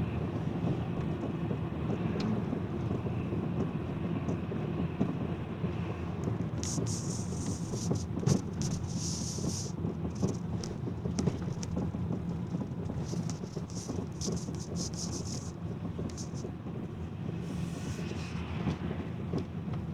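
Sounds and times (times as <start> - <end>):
road noise: 0.0 - 19.9.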